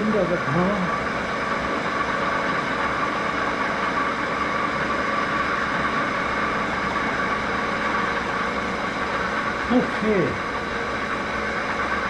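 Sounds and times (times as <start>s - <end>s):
drill press motor humming: 0.0s - 12.0s.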